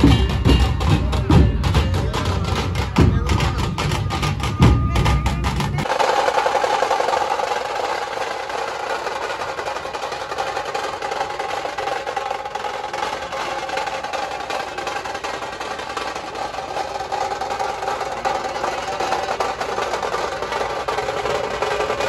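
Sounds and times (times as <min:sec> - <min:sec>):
barrel drums struck with sticks: 0:00.0 - 0:22.0
snare-like drum rolls: 0:00.0 - 0:22.0.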